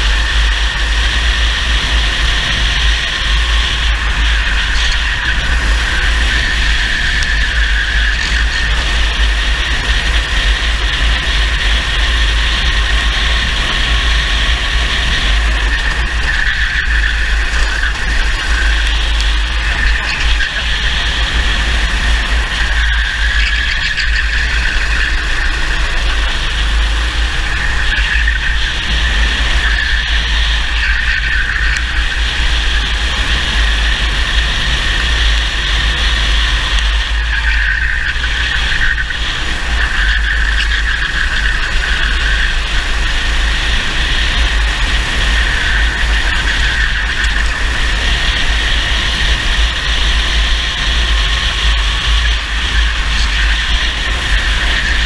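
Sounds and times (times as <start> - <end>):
racing kart engine: 0.0 - 55.0
wind rumble on microphone: 0.0 - 55.0.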